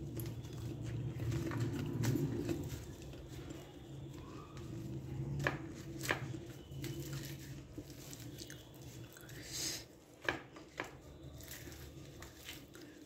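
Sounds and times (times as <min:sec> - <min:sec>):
flatbread crackling and rustling: 0:00.0 - 0:13.0.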